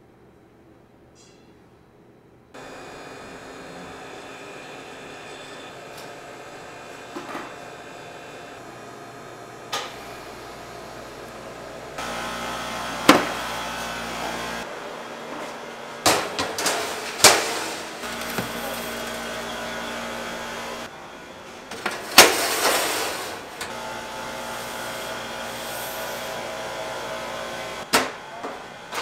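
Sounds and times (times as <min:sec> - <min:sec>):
steady machine hum: 0:02.5 - 0:29.0.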